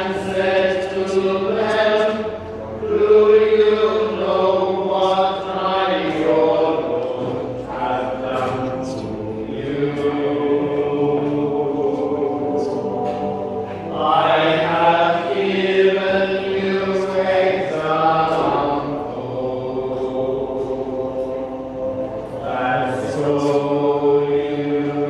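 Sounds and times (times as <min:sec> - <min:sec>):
chant-like hymn singing: 0:00.0 - 0:25.0.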